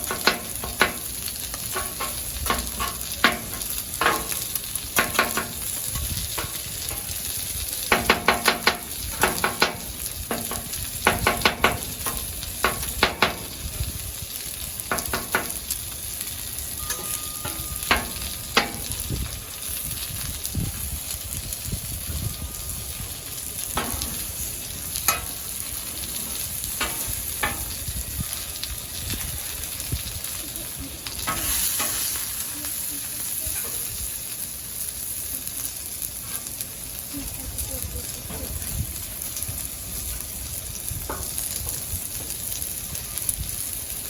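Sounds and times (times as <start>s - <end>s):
food sizzling on a griddle: 0.0s - 44.0s.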